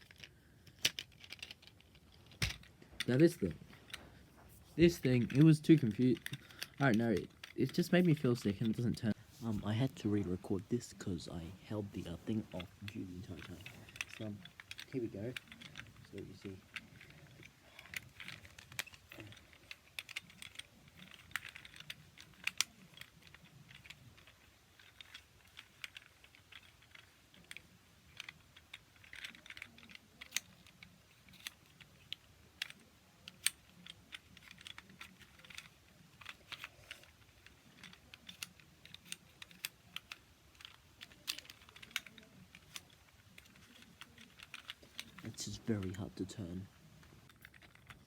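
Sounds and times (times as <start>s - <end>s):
plastic puzzle clicking: 0.0s - 9.2s, 9.8s - 48.0s
handling rustle: 0.0s - 48.0s.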